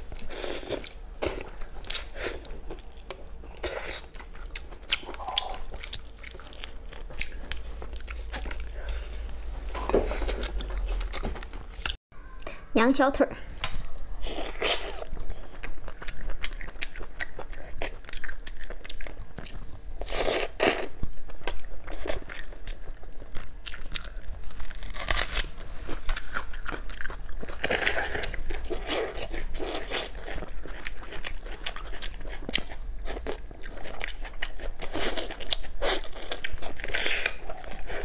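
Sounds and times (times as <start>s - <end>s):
wet chewing: 0.1s - 12.0s, 14.2s - 38.0s.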